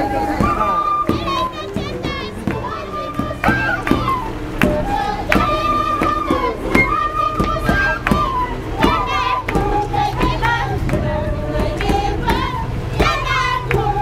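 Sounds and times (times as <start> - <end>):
women singing together: 0.0 - 14.0
hand drum beat: 0.2 - 14.0.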